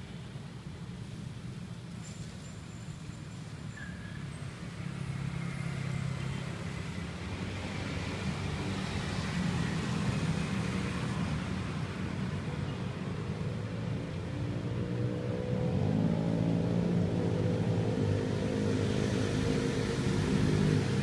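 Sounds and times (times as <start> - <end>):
scooters and cars passing: 0.0 - 21.0.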